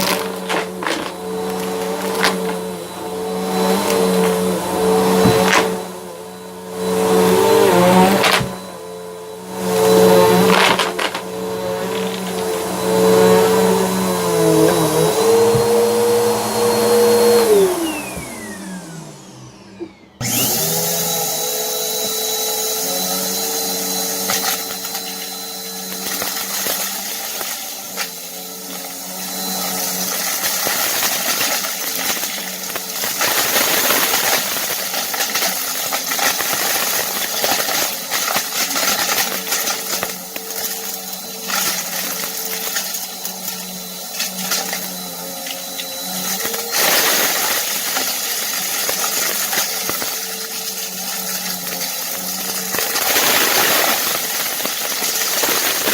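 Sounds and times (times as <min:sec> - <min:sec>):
vacuum brushroll crunching debris: 0:00.0 - 0:06.1, 0:06.8 - 0:08.8, 0:09.5 - 0:18.4, 0:20.2 - 0:55.9
vacuum cleaner motor humming: 0:00.0 - 0:55.9.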